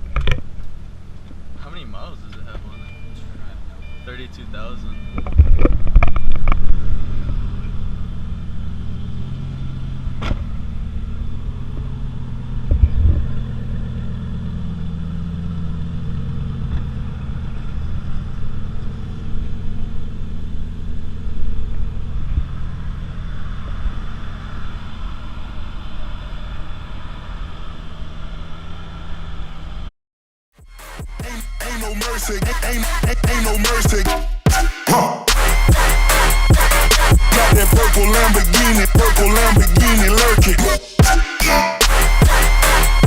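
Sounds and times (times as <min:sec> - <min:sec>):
car engine and road rumble: 0:00.0 - 0:29.9, 0:30.6 - 0:34.6, 0:35.4 - 0:43.0.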